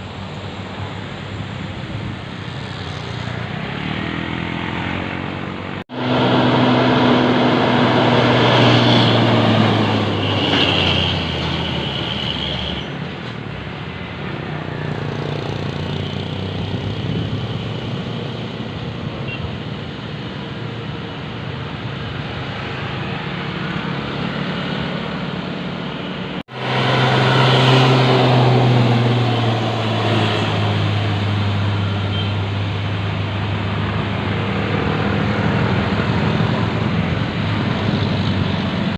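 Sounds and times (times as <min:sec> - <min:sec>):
buses driving past: 0:00.0 - 0:38.9.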